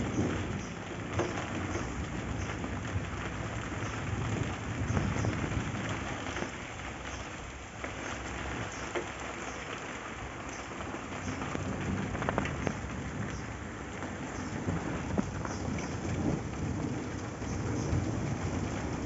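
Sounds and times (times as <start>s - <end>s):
heavy rain pouring: 0.0s - 19.0s
raindrops tapping close by: 0.0s - 19.0s.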